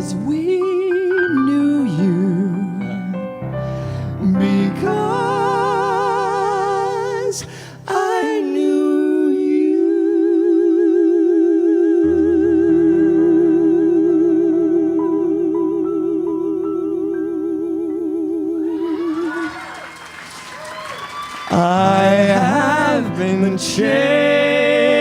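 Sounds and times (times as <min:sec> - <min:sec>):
man singing with vibrato: 0:00.0 - 0:03.3, 0:04.2 - 0:19.5, 0:21.5 - 0:25.0.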